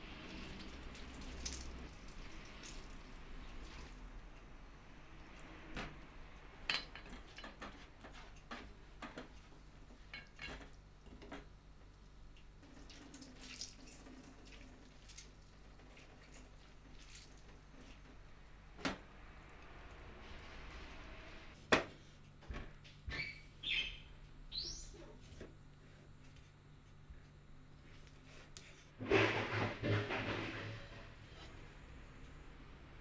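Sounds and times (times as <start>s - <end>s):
water at a sink: 0.0s - 33.0s.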